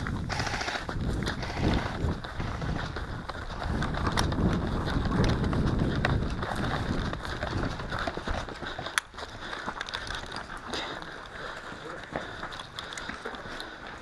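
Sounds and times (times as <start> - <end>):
footsteps running on ground: 0.0 - 14.0.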